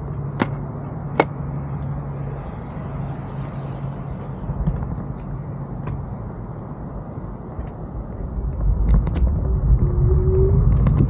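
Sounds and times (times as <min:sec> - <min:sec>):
electric scooter rumbling: 0:00.0 - 0:11.0
low motor hum: 0:00.0 - 0:11.0.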